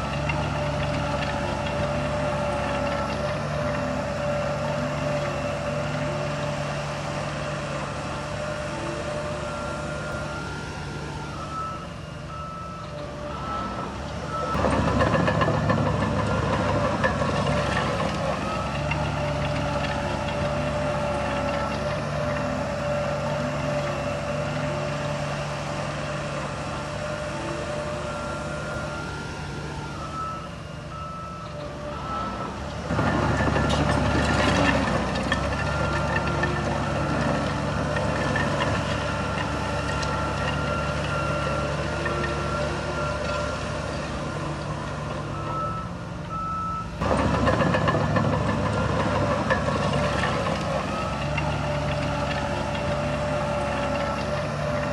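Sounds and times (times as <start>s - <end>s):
heavy diesel machinery running: 0.0s - 54.9s
reversing alarm beeping: 0.1s - 54.9s.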